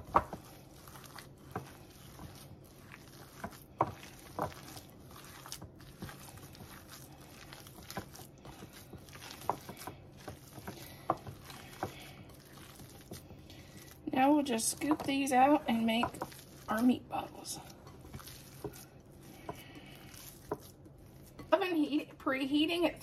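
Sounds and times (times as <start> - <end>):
hands squishing raw meat mixture: 0.0 - 21.9.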